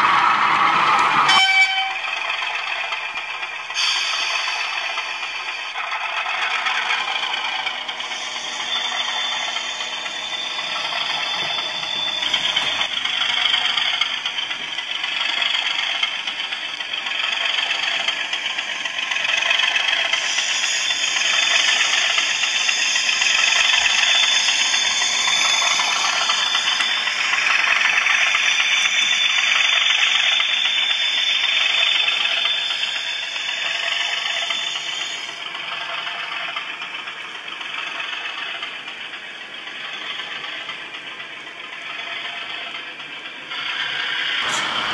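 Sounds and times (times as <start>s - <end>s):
diesel engine sound from small speaker: 0.0s - 44.9s
model train wheels rattling: 2.0s - 44.9s.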